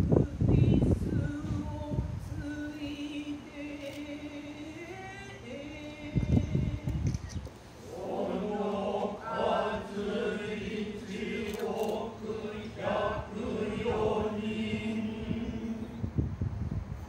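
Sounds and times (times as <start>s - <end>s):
slow drawn-out chanting: 0.0s - 16.4s.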